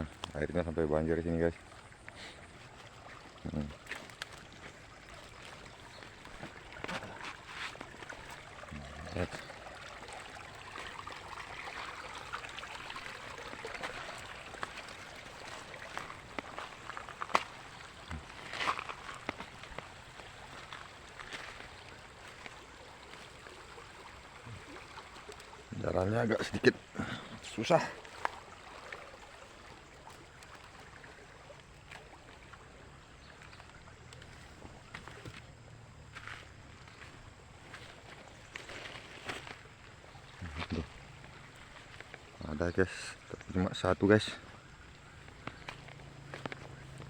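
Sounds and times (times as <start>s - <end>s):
soft footsteps on a wet bank: 0.0s - 47.0s
stream flowing: 0.0s - 47.0s.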